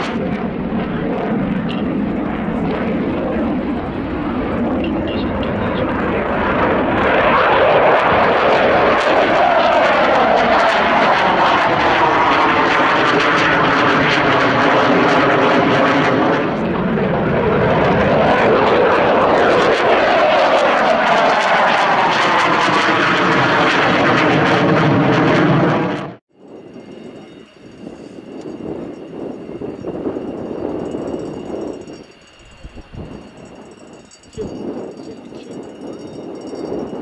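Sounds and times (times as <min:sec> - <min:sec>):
jet flying past overhead: 0:00.0 - 0:37.0.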